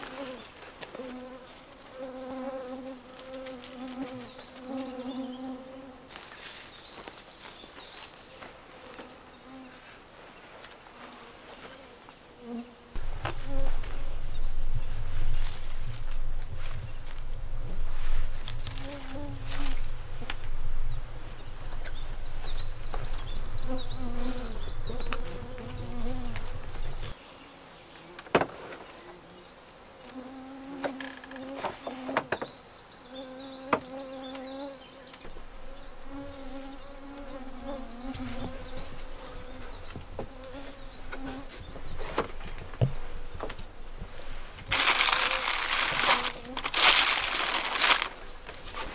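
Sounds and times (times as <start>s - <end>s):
flying insects buzzing: 0.0s - 48.9s.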